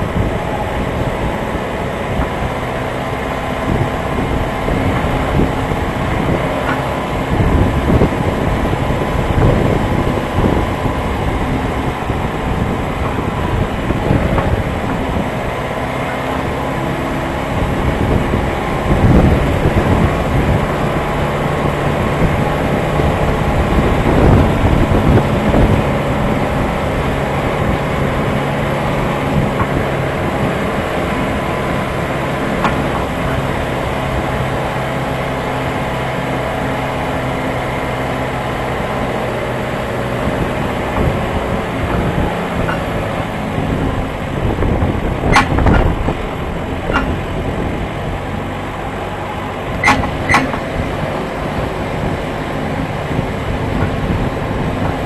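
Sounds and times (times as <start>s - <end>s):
loader rattling over bumps: 0.0s - 55.0s
tractor engine running: 0.0s - 55.0s.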